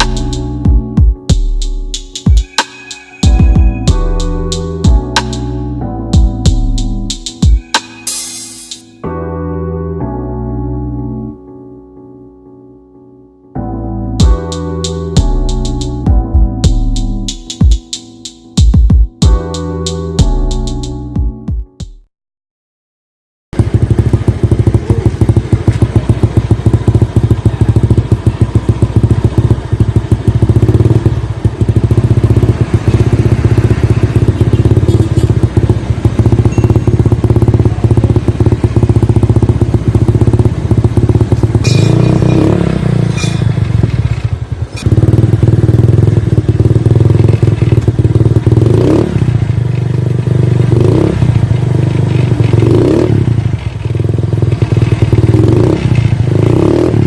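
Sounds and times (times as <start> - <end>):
scooter engine idling and revving: 0.0 - 7.8, 14.2 - 19.5, 23.6 - 57.0.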